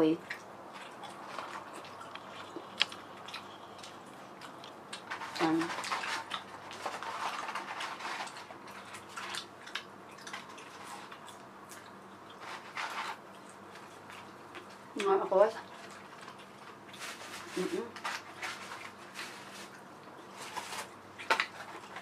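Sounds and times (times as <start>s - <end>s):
person chewing food: 0.2s - 15.0s, 15.6s - 22.0s
mouth clicks and crunches: 0.2s - 22.0s.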